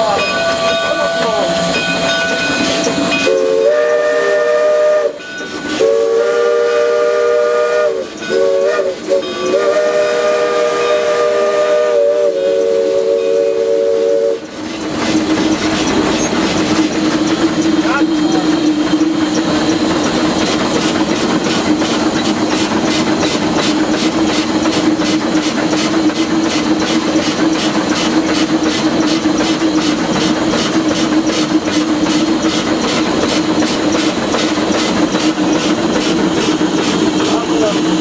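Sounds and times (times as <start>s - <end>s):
steam locomotive beat: 0.0s - 38.0s.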